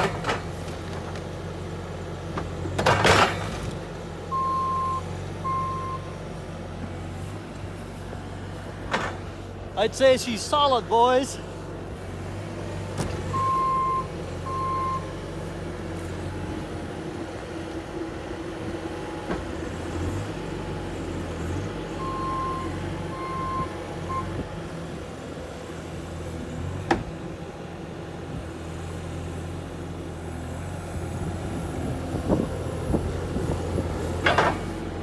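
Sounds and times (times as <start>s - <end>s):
vehicle engine idling: 3.9s - 35.0s.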